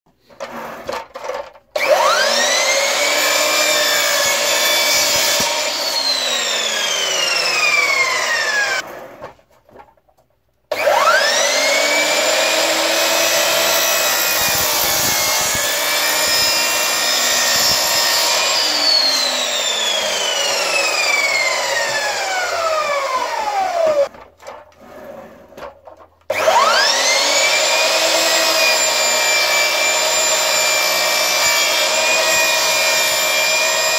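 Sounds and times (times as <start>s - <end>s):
saw blade cutting wood panel: 0.1s - 9.5s, 10.7s - 33.9s
mitre saw motor whine: 1.8s - 8.8s, 10.7s - 24.1s, 26.3s - 33.9s.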